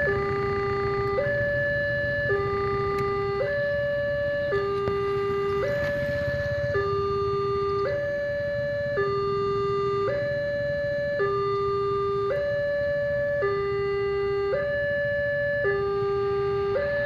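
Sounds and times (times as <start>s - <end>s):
two-tone crossing alarm: 0.0s - 17.0s.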